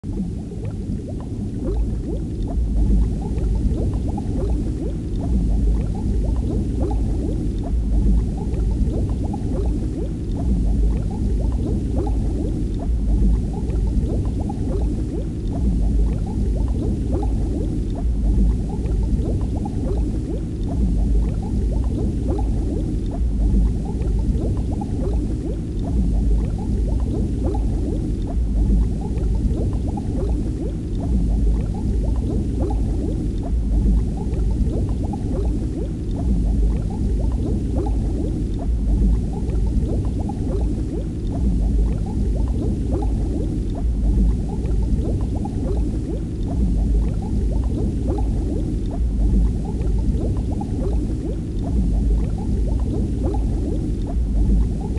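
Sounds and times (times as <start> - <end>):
low rumble: 0.0 - 54.9
underwater bubbling and gurgling: 0.0 - 54.9.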